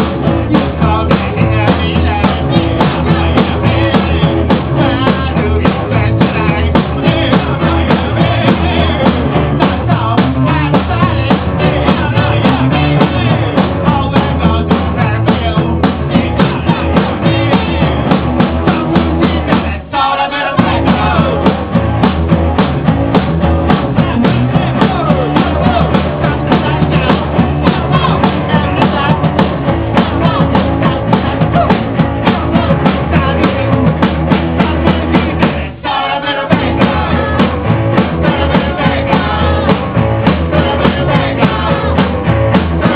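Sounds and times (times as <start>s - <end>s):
rock band playing: 0.0s - 19.9s, 20.6s - 42.9s.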